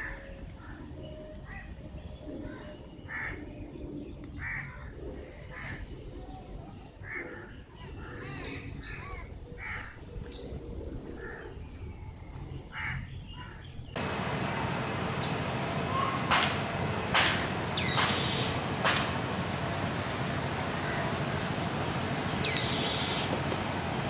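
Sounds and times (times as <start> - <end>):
birds calling harshly: 0.0 - 24.0.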